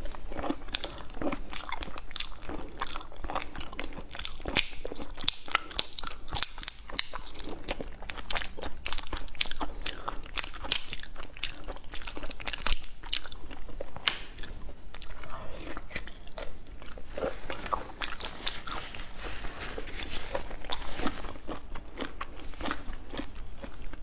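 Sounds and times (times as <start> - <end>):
chewing: 0.0 - 24.0.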